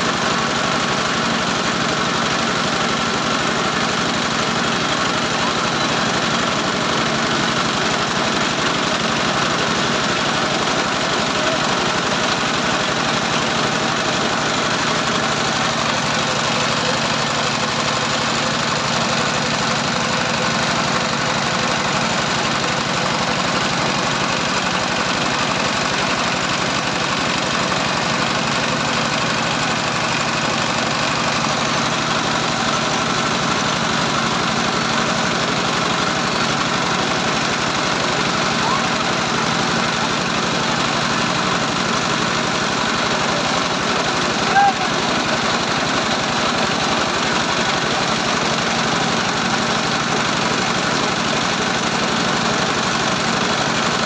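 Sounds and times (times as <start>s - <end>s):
small engine humming steadily: 0.0s - 54.0s.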